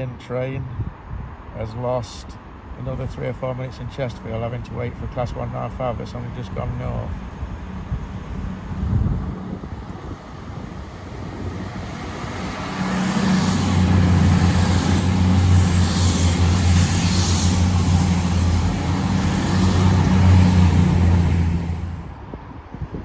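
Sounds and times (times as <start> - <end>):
diesel train engine drone: 2.4 - 22.6.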